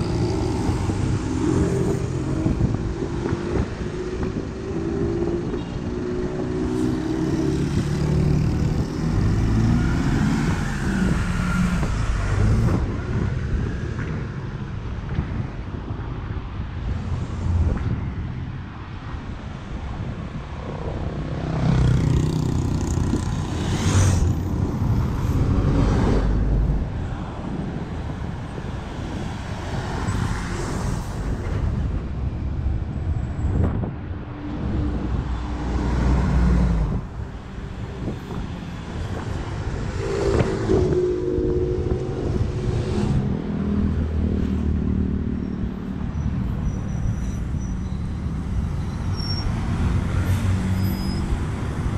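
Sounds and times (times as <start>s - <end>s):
cars and buses passing: 0.0s - 51.9s.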